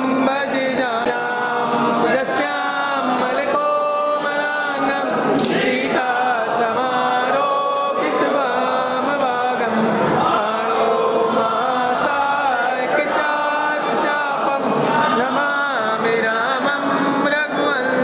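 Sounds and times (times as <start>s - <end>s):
voices singing a devotional chant: 0.0s - 18.0s.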